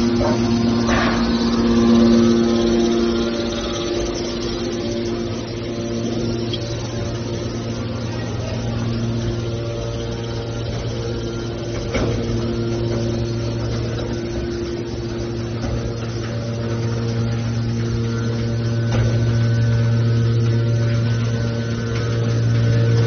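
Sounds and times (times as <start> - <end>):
hydraulic power unit humming: 0.0 - 23.0.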